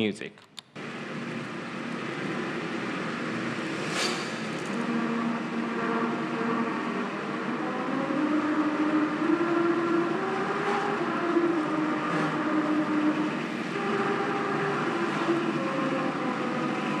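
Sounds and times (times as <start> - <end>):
road grooves sounding a tune: 0.8 - 17.0.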